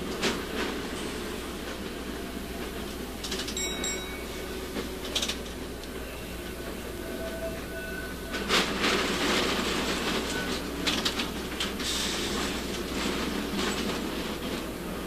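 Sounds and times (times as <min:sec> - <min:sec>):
streetcar rolling on rails: 0:00.0 - 0:15.0.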